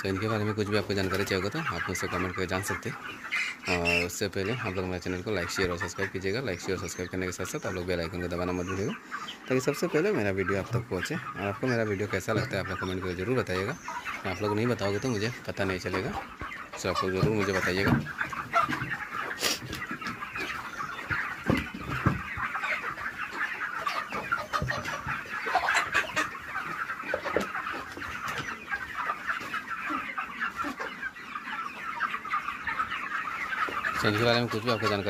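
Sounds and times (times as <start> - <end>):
chickens clucking and cheeping: 0.0 - 35.0.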